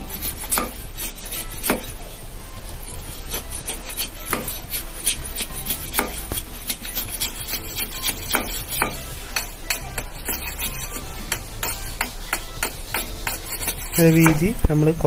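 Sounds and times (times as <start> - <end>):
knife scraping bamboo: 0.0 - 14.6.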